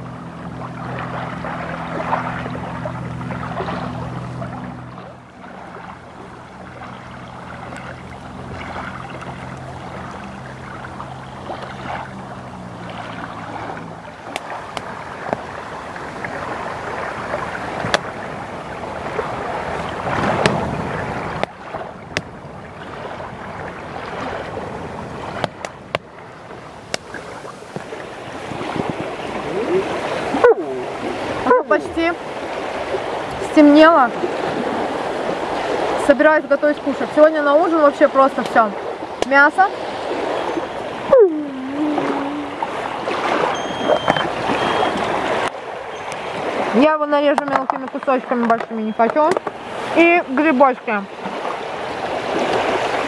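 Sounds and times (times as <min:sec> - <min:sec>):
small waves lapping: 0:00.0 - 0:53.0.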